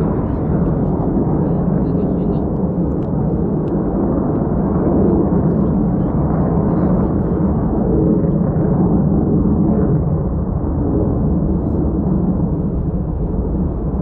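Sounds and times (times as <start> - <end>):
distant jet roar: 0.0 - 14.0.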